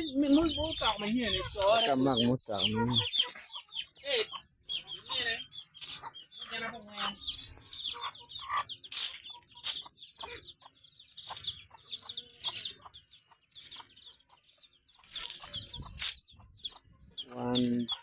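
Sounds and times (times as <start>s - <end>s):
chickens clucking: 0.0s - 18.0s
high peeping calls: 0.0s - 18.0s.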